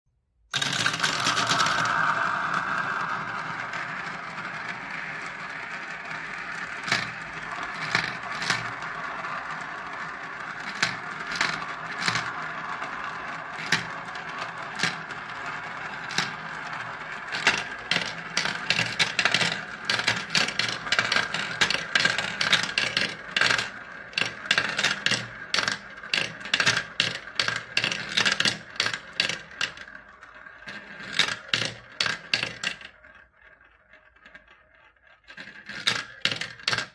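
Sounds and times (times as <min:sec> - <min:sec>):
marbles clicking together: 0:00.5 - 0:36.9
marbles rolling rattle: 0:00.5 - 0:36.9.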